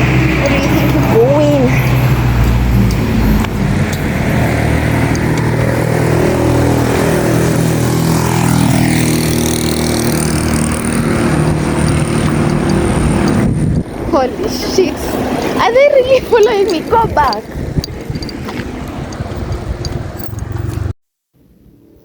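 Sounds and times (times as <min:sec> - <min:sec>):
motor vehicle engine running: 0:00.0 - 0:20.9
street noise: 0:00.0 - 0:22.0.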